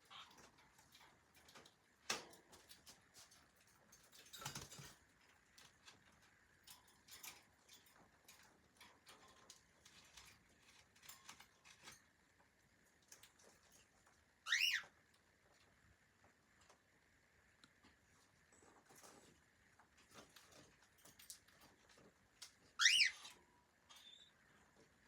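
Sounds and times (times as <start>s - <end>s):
bird clicks and scratches: 0.0s - 14.2s, 18.6s - 24.9s.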